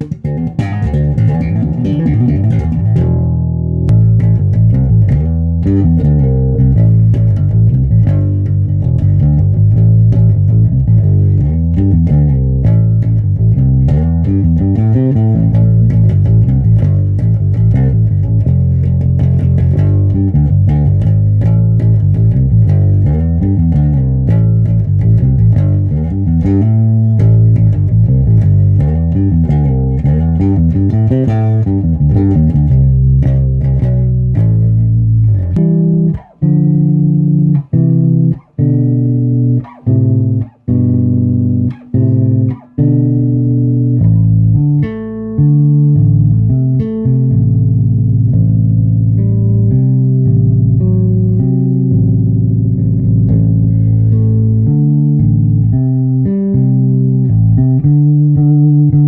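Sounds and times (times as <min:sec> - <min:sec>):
bass guitar notes: 0:00.0 - 0:59.0.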